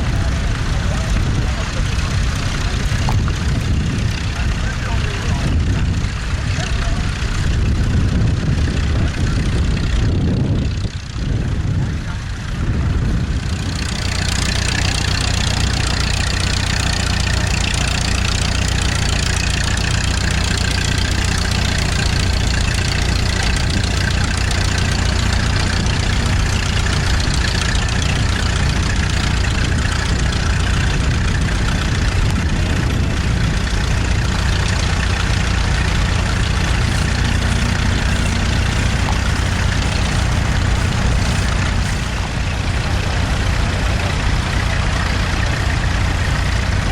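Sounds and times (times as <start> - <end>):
tractor engine running under load: 0.0 - 46.9.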